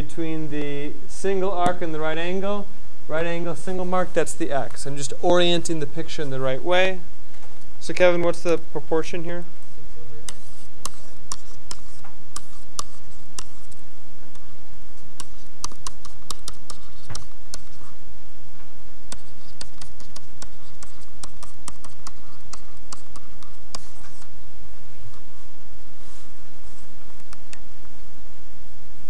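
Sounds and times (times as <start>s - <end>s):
low room hiss: 0.0s - 29.0s.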